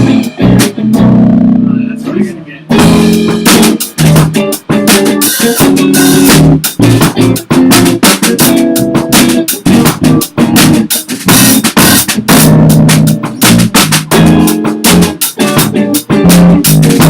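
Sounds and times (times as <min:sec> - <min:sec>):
drum kit: 0:00.0 - 0:17.0
electric bass: 0:00.0 - 0:17.0
electric guitar: 0:00.0 - 0:17.0.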